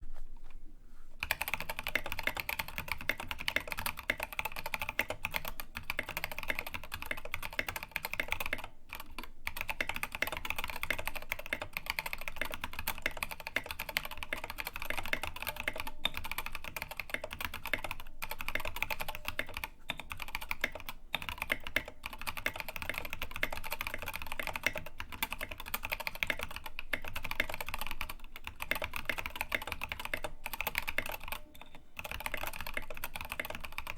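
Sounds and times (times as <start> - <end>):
fast typing on mechanical keyboard: 1.2 - 33.9.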